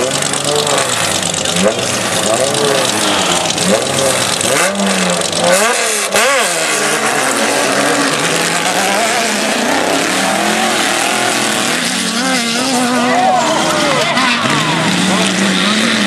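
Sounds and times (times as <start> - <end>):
race truck engines revving: 0.0 - 16.0.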